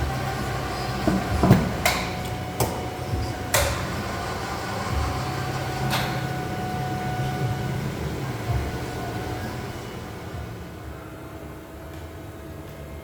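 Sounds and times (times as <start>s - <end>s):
cnc machine humming and whining: 0.0s - 13.0s.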